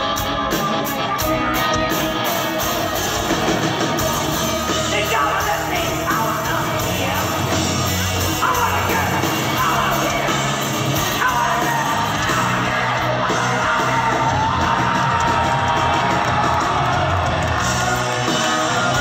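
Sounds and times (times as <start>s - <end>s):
live rock band playing: 0.0s - 19.0s
man singing and yelling: 0.0s - 19.0s.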